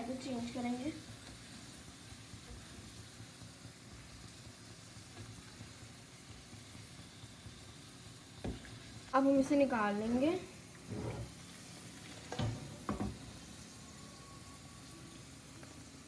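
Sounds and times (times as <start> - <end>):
fries sizzling in hot oil: 0.0 - 16.0.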